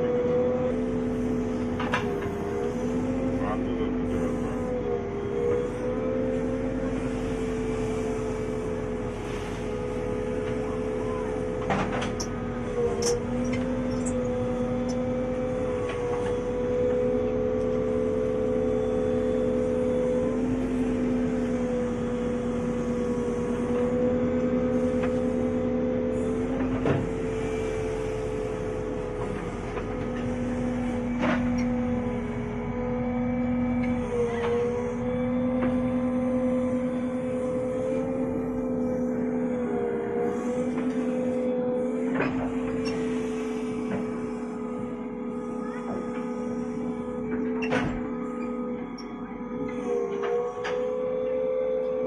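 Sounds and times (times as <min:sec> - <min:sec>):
backhoe loader engine drone: 0:00.0 - 0:52.0.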